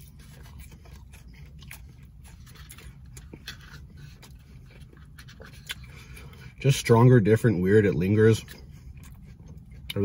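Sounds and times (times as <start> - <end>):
low steady hum: 0.0 - 10.0
person chewing food: 0.0 - 10.0.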